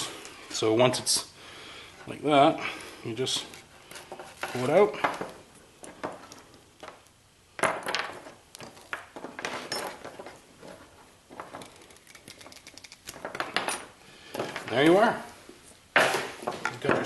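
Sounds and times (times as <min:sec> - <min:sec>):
wire rustling and scraping: 0:01.9 - 0:07.1, 0:08.1 - 0:16.9.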